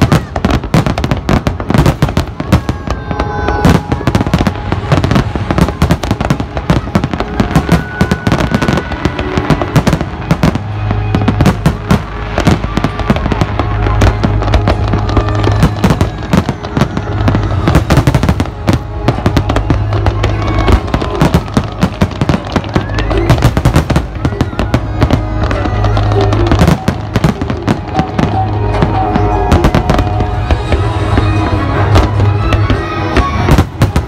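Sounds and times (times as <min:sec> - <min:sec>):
fireworks bursts and crackling bangs: 0:00.0 - 0:34.0.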